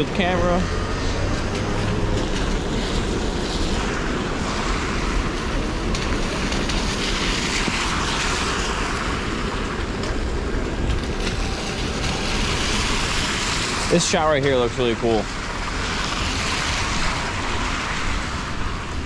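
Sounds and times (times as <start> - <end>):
tyres hissing on wet street: 0.0 - 19.0
wind rumbling on microphone: 0.0 - 19.0.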